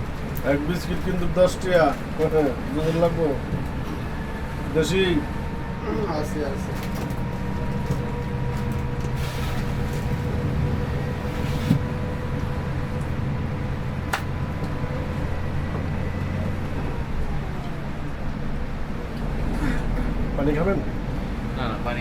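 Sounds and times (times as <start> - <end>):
engine and road drone: 0.0 - 22.0.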